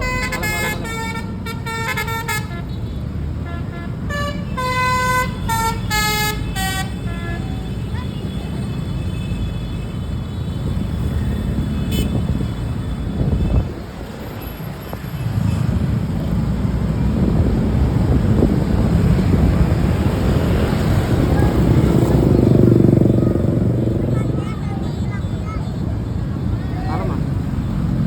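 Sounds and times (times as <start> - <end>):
road traffic engines: 0.0 - 28.0.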